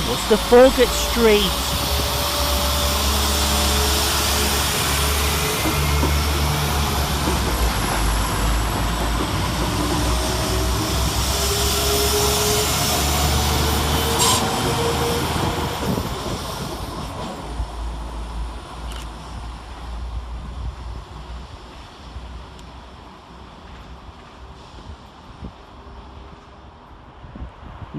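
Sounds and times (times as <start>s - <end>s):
diesel train engine drone: 0.0s - 27.9s.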